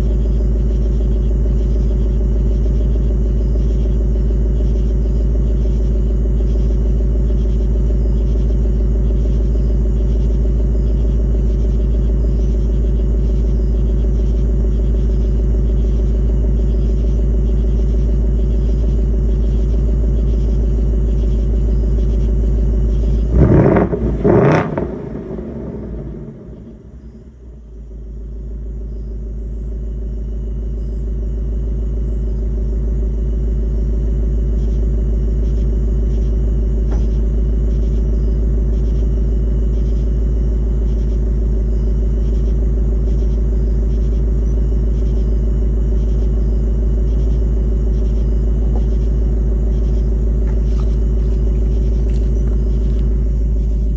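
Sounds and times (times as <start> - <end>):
car engine idling deep rumble: 0.0 - 53.9.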